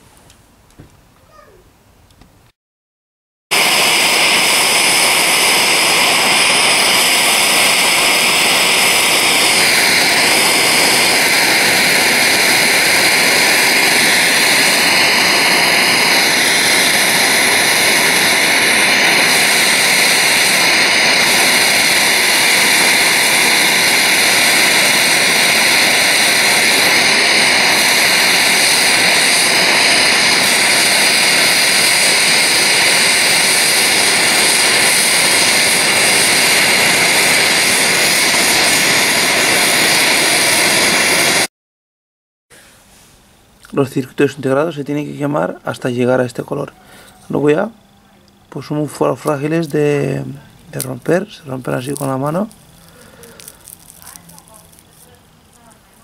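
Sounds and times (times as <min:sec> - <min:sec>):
blowtorch hissing: 0:03.5 - 0:41.5, 0:44.1 - 0:56.0.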